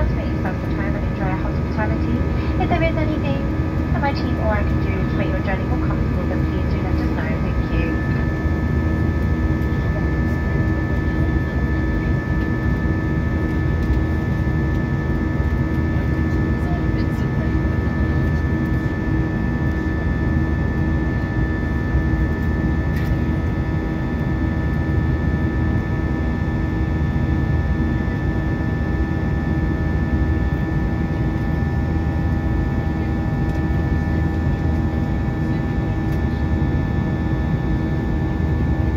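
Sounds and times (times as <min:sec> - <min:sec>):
airplane cabin engine drone: 0:00.0 - 0:38.9
faint steady whine: 0:00.0 - 0:38.9.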